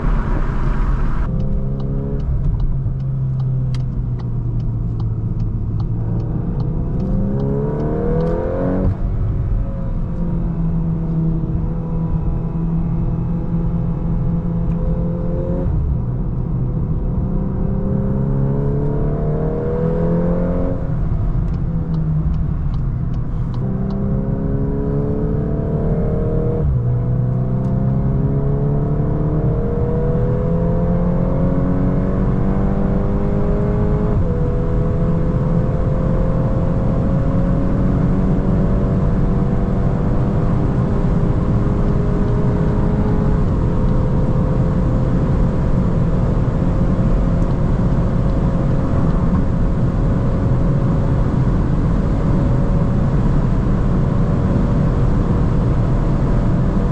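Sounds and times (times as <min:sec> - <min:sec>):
car engine accelerating hard: 0:00.0 - 0:56.9
road and wind noise: 0:00.0 - 0:56.9.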